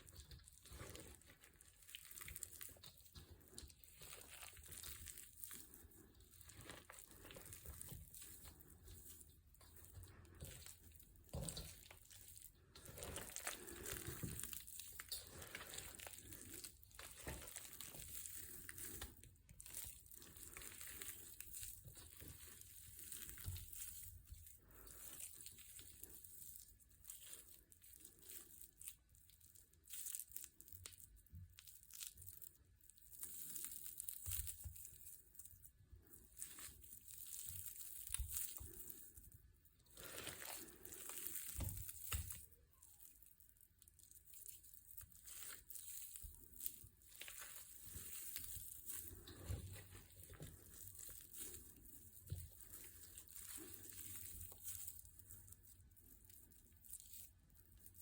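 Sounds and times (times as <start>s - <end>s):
crunching and crinkling: 0.0s - 58.0s.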